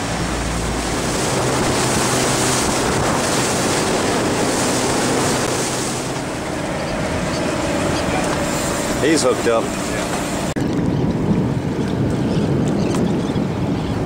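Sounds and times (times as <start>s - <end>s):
boat engine running low: 0.0s - 14.0s
sea wash: 0.0s - 14.0s
wind rushing over microphone: 0.0s - 14.0s.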